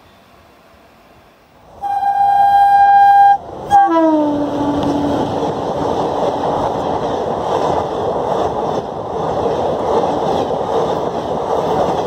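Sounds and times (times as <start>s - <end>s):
train wheels rumbling on rails: 2.2s - 12.0s.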